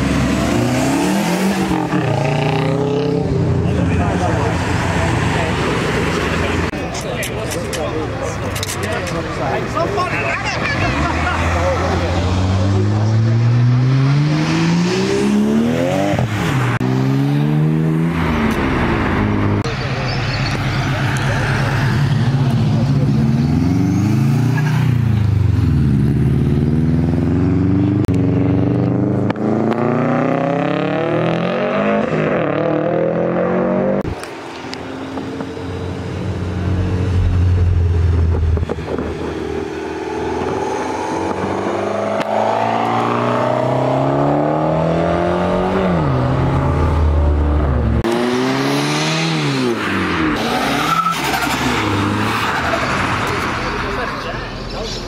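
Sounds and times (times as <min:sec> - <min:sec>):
car engines revving through gears: 0:00.0 - 0:55.0.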